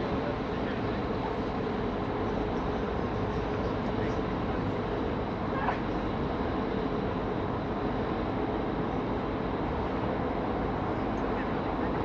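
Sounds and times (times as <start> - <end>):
ferry engine drone: 0.0 - 12.0.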